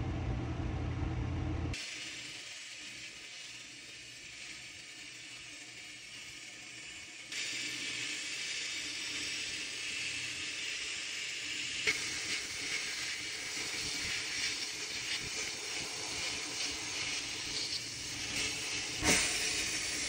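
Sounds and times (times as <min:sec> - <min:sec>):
sandblast gun hissing: 0:01.8 - 0:20.0.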